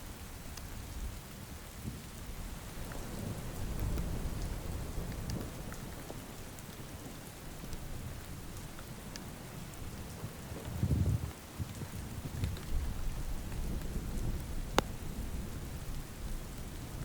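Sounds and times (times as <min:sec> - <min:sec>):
steady rain falling: 0:00.0 - 0:17.0
low thunder rumble: 0:00.1 - 0:17.0.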